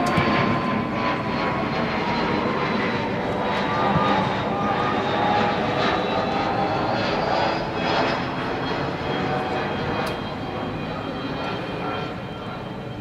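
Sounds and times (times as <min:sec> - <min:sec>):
aircraft engine rushing overhead: 0:00.0 - 0:13.0.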